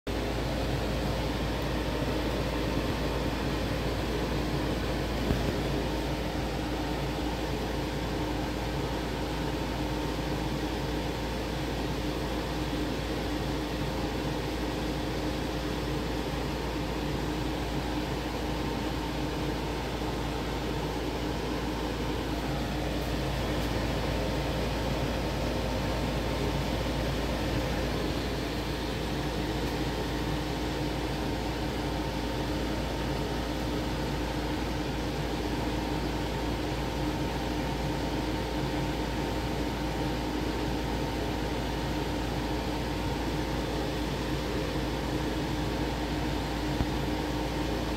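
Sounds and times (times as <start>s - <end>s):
machine fan noise: 0.1s - 47.9s.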